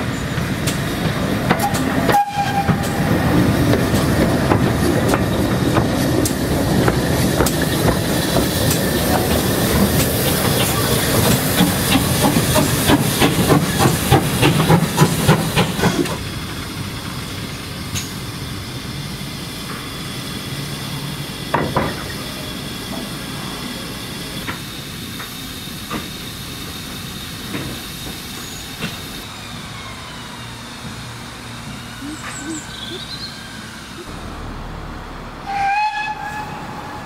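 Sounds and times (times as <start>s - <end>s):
steady steam hiss: 0.0s - 34.4s
steam locomotive chuffing: 0.0s - 34.8s.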